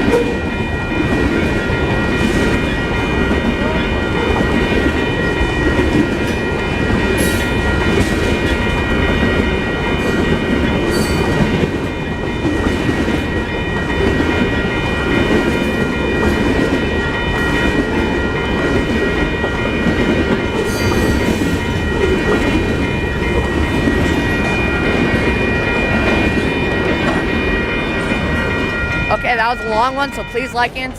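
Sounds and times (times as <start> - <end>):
train wheels rumbling on track: 0.0 - 30.9.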